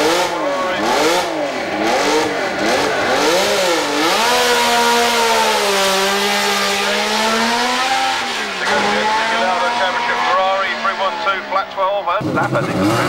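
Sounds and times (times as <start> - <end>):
racing engine at speed: 0.0 - 13.0.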